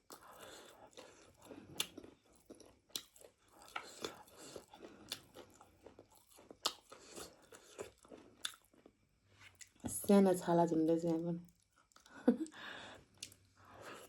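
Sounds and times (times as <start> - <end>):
person chewing meat: 0.0 - 9.8, 11.5 - 12.2, 13.1 - 14.0.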